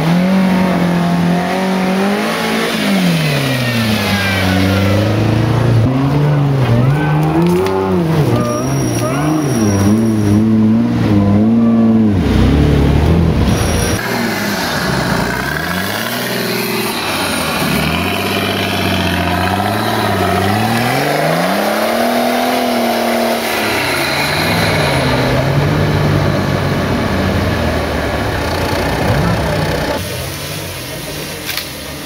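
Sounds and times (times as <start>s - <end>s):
buggy engine revving: 0.0s - 32.0s.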